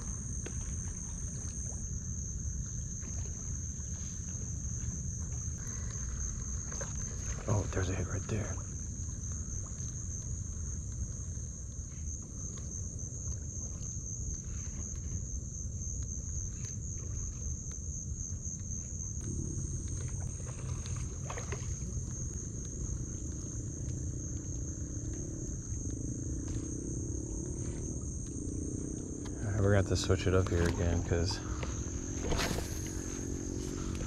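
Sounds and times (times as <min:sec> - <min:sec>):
insect chorus drone: 0:00.0 - 0:34.0
low background rumble: 0:00.0 - 0:34.0
low hum: 0:00.0 - 0:34.0.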